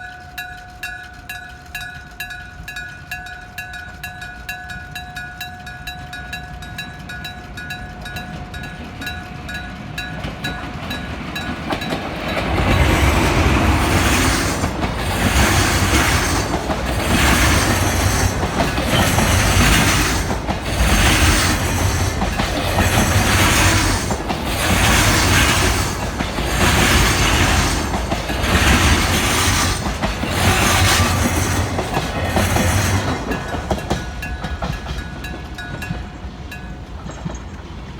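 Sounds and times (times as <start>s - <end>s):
railroad crossing bell ringing: 0.0s - 37.5s
train wheels clattering over rails: 0.0s - 37.9s.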